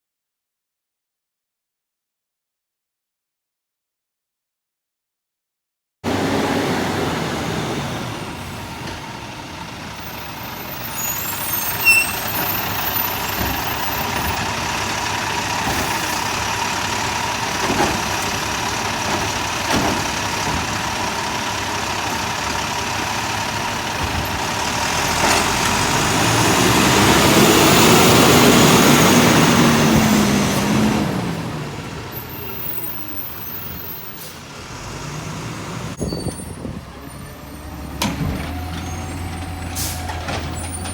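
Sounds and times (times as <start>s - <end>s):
garbage truck engine: 6.0s - 40.9s.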